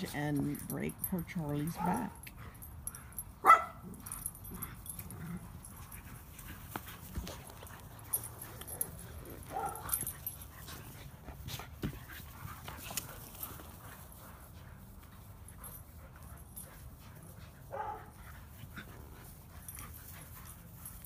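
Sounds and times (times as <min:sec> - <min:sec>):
dogs wrestling in play: 0:01.7 - 0:21.0.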